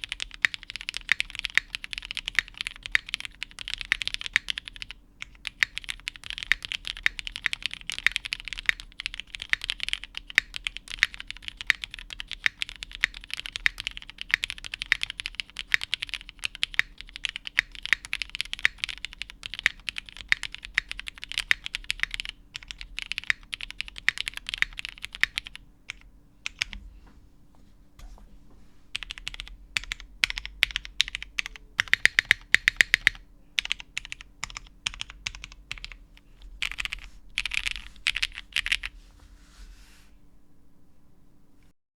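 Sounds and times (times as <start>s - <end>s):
mechanical keyboard typing: 0.0s - 26.8s, 29.0s - 38.9s.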